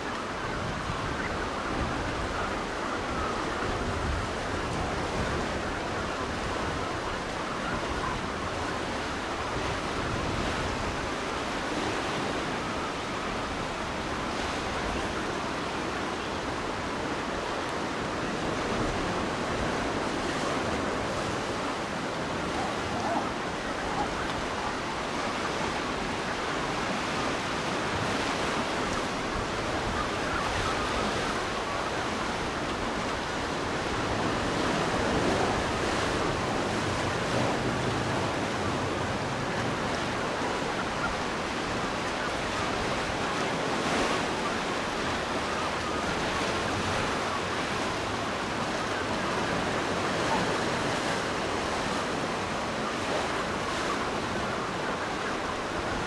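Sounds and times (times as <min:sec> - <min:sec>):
ocean surf washing: 0:00.0 - 0:56.0.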